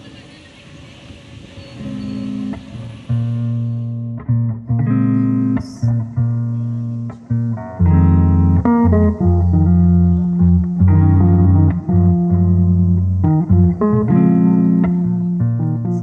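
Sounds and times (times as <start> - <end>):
plucked guitar music with bass: 1.8 - 16.0.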